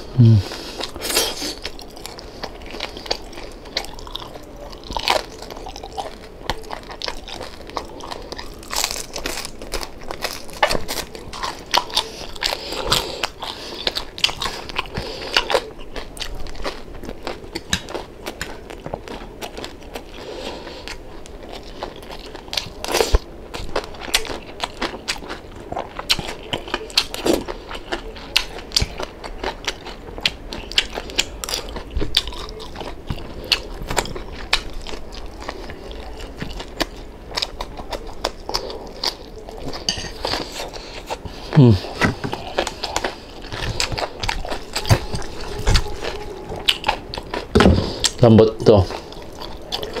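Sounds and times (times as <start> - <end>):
person chewing crispy food: 0.0 - 50.0.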